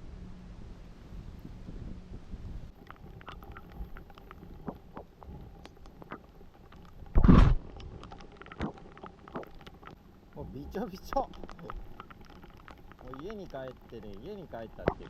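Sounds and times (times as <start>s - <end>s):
raindrop ticks: 2.7s - 15.0s.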